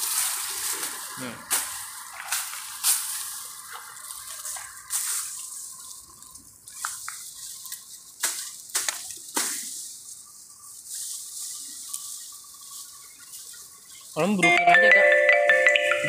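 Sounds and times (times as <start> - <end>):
grass and leaves rustling: 0.0 - 16.0.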